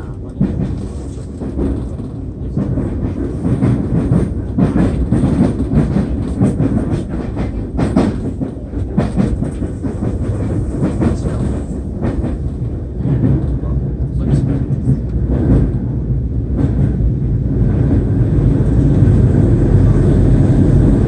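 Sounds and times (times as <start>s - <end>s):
wheel-on-rail rumble: 0.0s - 21.0s.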